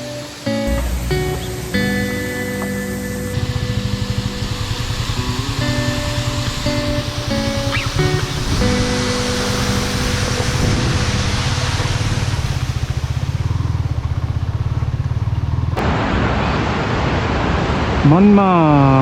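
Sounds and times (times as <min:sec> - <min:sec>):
motorcycle engine pulsing: 0:00.0 - 0:15.8
rushing wind: 0:00.0 - 0:19.0.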